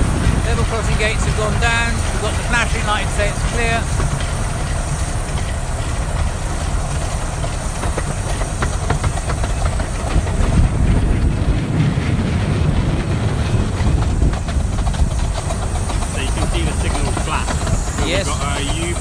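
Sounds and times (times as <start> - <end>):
train wheels rumbling on rail: 0.0 - 19.0
wheel clicks on track: 0.0 - 19.0.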